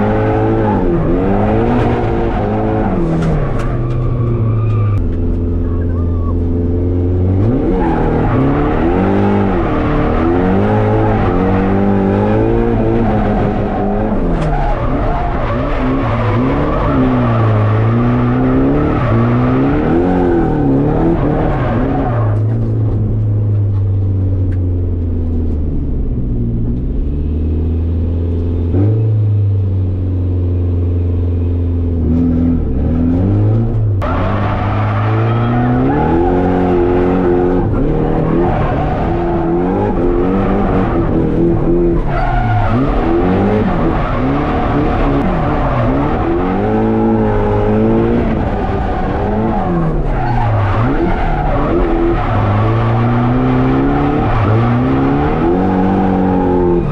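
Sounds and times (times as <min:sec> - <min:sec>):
car engine revving: 0:00.0 - 0:30.0, 0:31.7 - 0:56.9.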